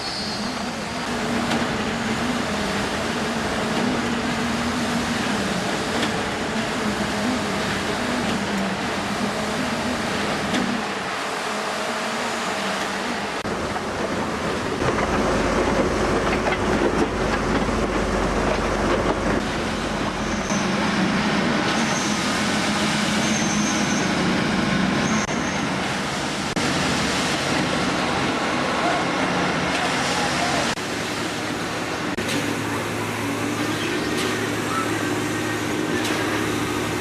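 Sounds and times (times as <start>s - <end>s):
heavy machinery and vehicle noise: 0.0s - 37.0s.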